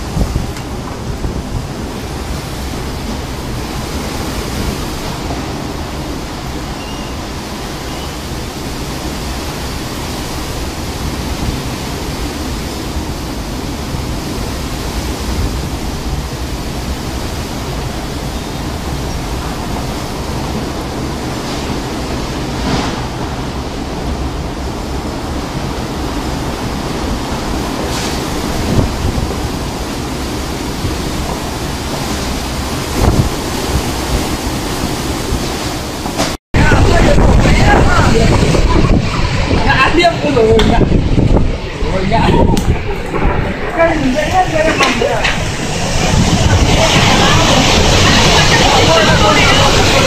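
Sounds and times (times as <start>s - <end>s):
heavy rain: 0.0s - 50.0s
storm wind: 0.0s - 50.0s
wind rumbling on microphone: 0.0s - 50.0s.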